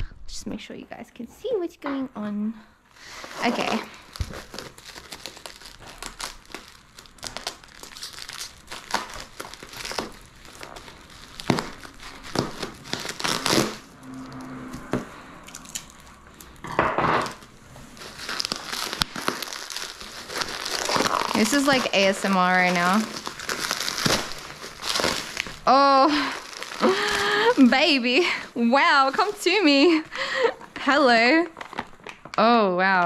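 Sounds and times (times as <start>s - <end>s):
bubble wrap crinkling: 3.0s - 33.0s.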